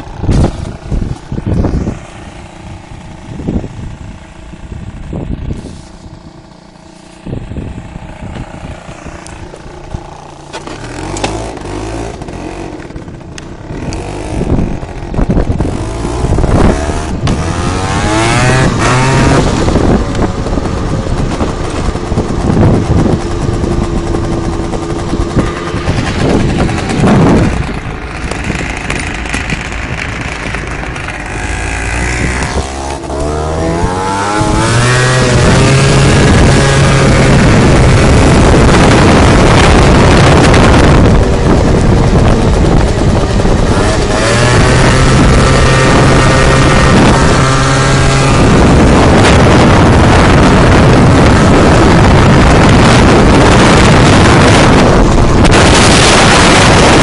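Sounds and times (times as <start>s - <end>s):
scooter engine revving: 0.0s - 57.0s.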